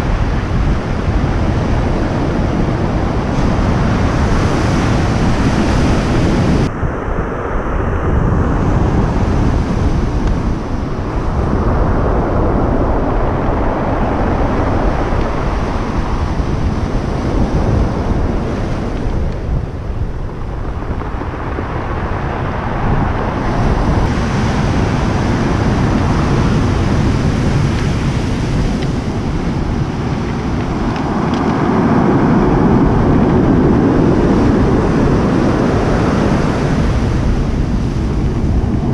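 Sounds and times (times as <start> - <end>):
wind buffeting the microphone: 0.0 - 38.9.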